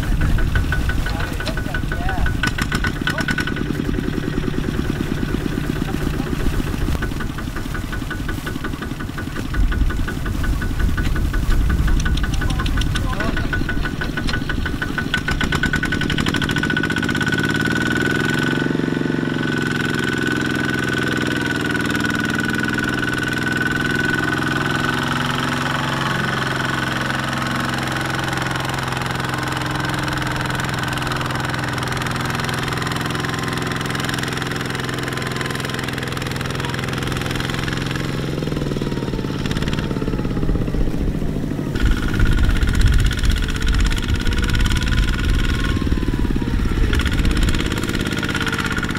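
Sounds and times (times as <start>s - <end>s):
diesel engine running hard: 0.0s - 48.9s.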